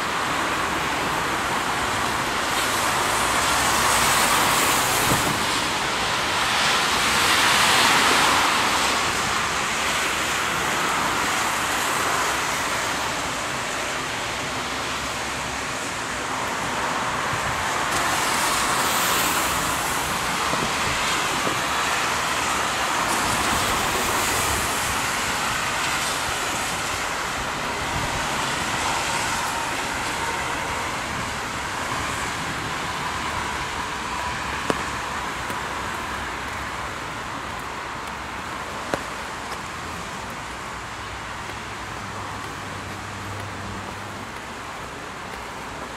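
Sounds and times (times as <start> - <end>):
tyres hissing on wet road: 0.0 - 45.9.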